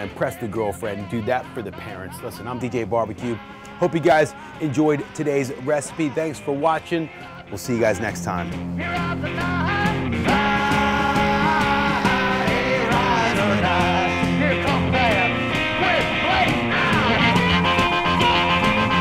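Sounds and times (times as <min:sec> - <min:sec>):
rock music with drum beat: 0:03.5 - 0:19.0.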